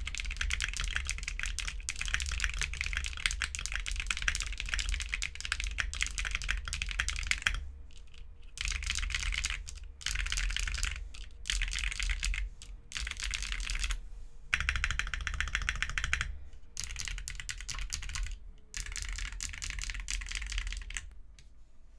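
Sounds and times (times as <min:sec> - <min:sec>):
mechanical keyboard typing: 0:00.0 - 0:21.2.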